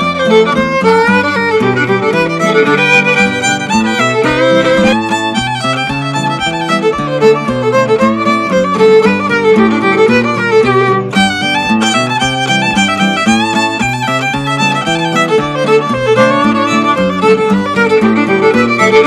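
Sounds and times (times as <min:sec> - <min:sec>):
acoustic guitar accompaniment: 0:00.0 - 0:19.0
fiddle playing quick melody: 0:00.0 - 0:19.0.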